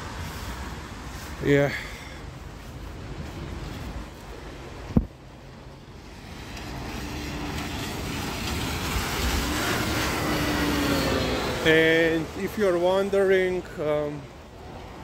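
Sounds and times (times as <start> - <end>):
bus driving past on wet road: 0.0 - 1.6, 2.6 - 15.0.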